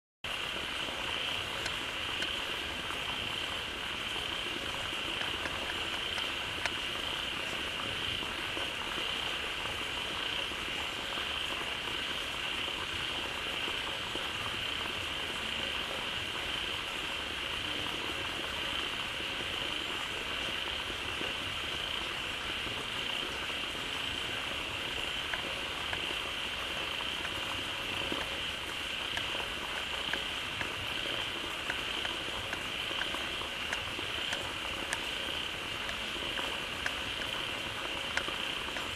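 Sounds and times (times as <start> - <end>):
frogs calling in chorus: 1.0 - 38.9.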